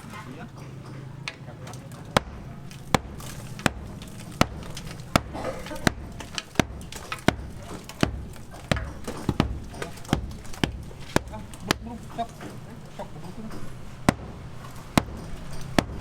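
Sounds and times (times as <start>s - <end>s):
low background rumble: 1.5s - 16.0s.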